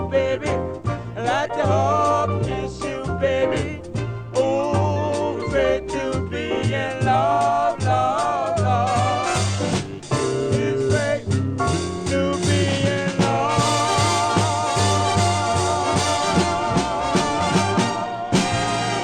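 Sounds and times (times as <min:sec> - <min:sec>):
recorded band music with beat: 0:00.0 - 0:19.0.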